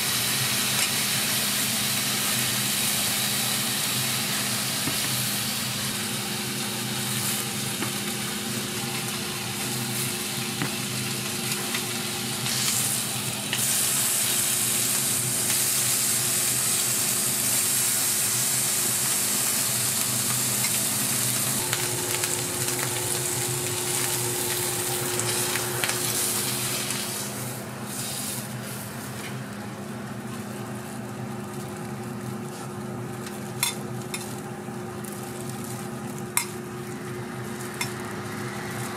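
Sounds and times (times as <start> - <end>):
bacon sizzling on griddle: 0.0 - 38.9.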